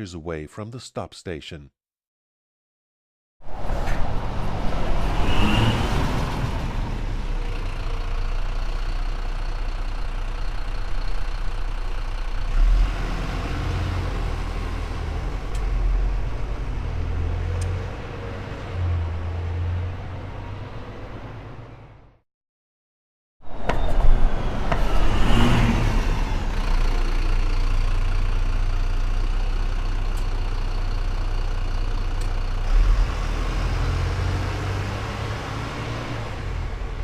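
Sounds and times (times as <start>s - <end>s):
bus engine accelerating: 3.5s - 22.2s, 23.4s - 37.0s.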